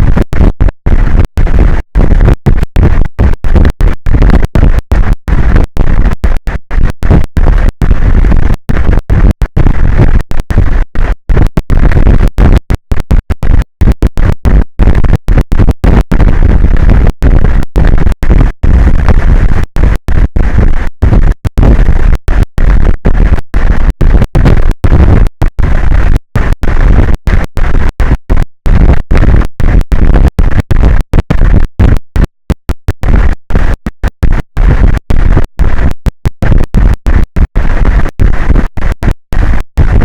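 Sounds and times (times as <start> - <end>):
distorted wind noise: 0.0 - 40.0.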